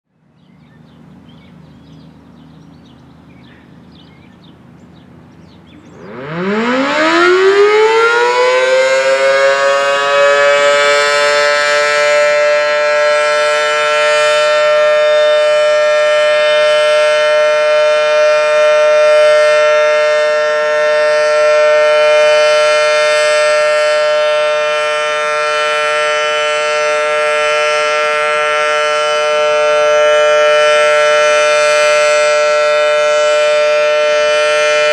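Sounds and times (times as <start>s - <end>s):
warning siren wailing: 0.8s - 34.9s.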